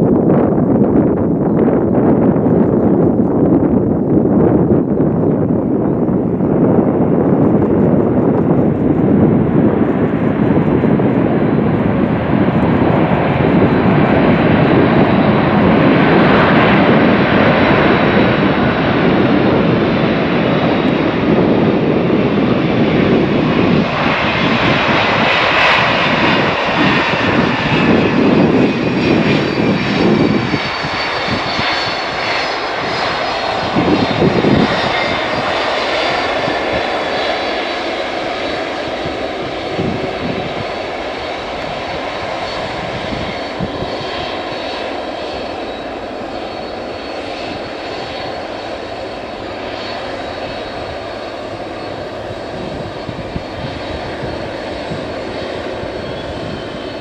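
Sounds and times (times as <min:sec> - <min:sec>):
jet engines whining and rumbling: 0:00.0 - 0:57.0.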